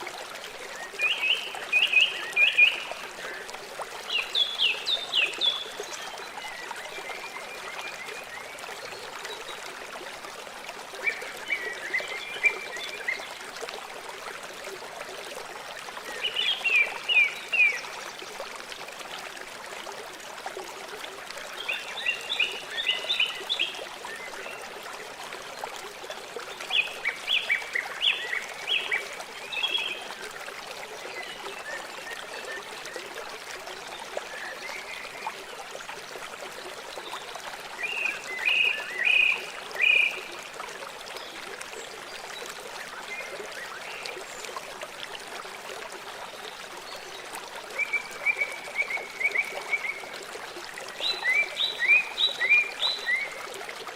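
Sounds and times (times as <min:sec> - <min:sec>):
river flowing: 0:00.0 - 0:53.9.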